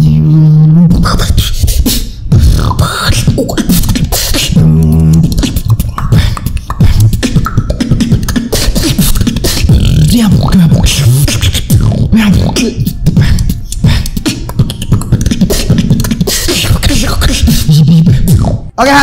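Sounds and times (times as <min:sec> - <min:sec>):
beatboxing: 0:00.0 - 0:18.8.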